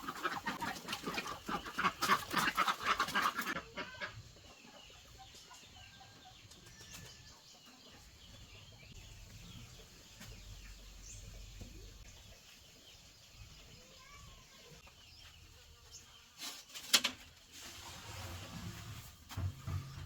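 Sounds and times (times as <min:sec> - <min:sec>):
chickens clucking: 0:00.0 - 0:16.7.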